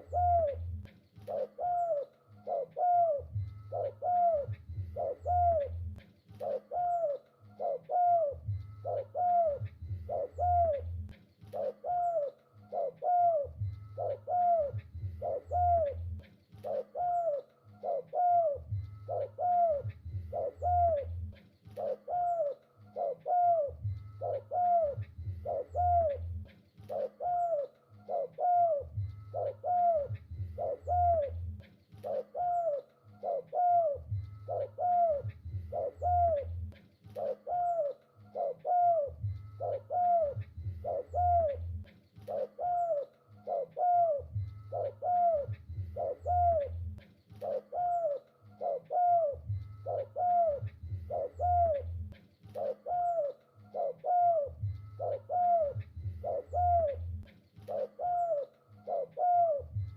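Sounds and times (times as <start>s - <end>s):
dove cooing: 0.0s - 59.9s.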